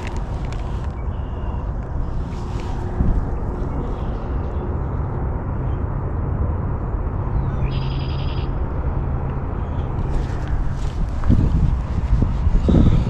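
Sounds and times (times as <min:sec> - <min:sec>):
car driving hum: 0:00.0 - 0:13.0.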